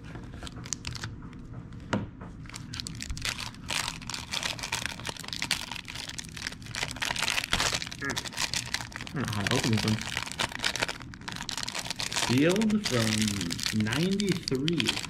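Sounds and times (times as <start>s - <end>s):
foil wrapper crinkling: 0.3s - 1.1s, 2.5s - 15.0s.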